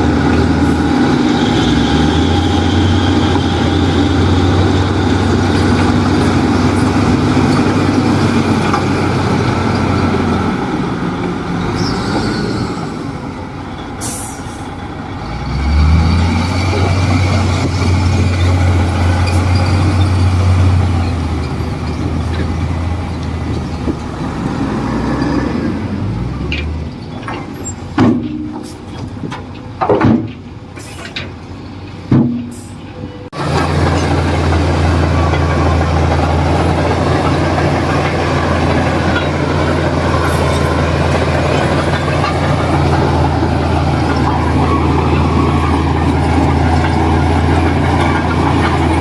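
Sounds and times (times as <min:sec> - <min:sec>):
heavy diesel engine running: 0:00.0 - 0:28.0, 0:32.8 - 0:49.0.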